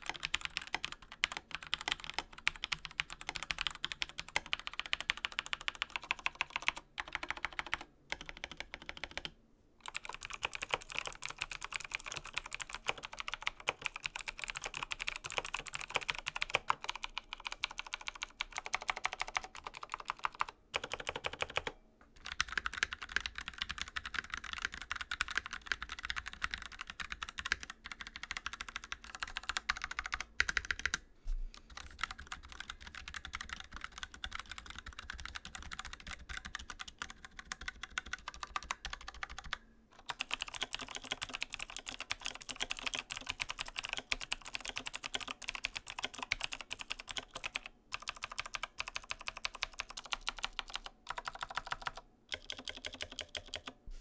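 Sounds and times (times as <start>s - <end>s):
fast typing on mechanical keyboard: 0.0s - 31.0s, 31.6s - 53.8s.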